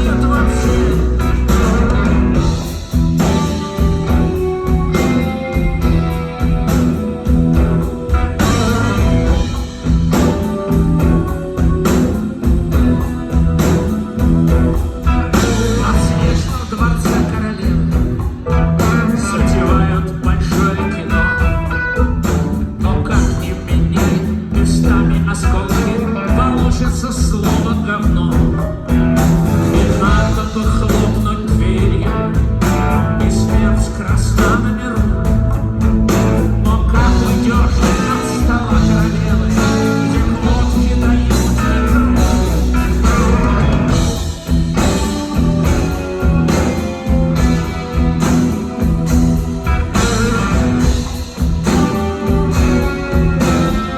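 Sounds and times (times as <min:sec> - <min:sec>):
electric guitar: 0:00.0 - 0:53.9
rock band playing: 0:00.0 - 0:53.9.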